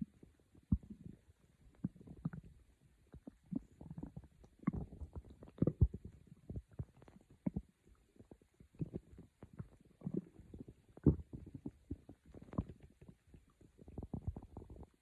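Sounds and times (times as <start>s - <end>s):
stomach growling and gurgling: 0.0s - 15.0s.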